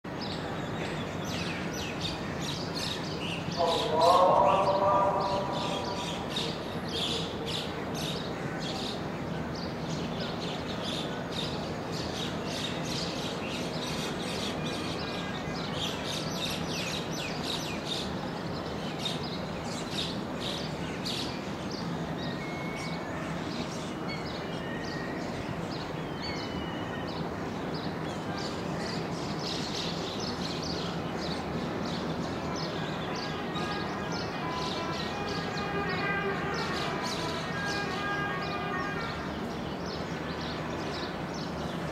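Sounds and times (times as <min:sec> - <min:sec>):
city background hum: 0:00.1 - 0:41.9.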